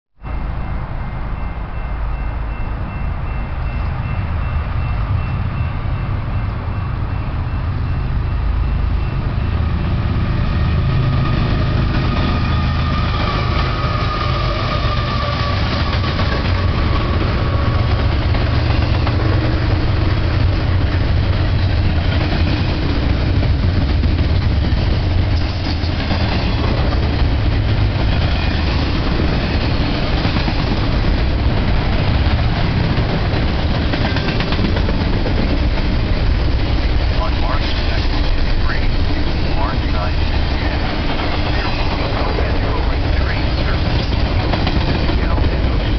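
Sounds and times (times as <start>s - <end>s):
diesel locomotive rumble: 0.2s - 45.9s
train wheels rolling on rails: 0.2s - 45.9s.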